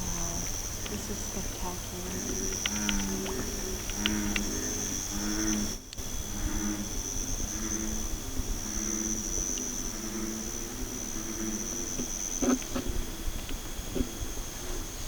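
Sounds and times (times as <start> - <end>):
frogs croaking: 0.0 - 15.0
insects trilling: 0.0 - 15.0.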